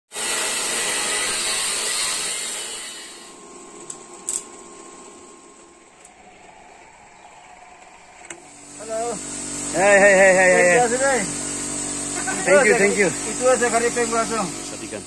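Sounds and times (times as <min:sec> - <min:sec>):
angle grinder grinding metal: 0:00.1 - 0:15.0.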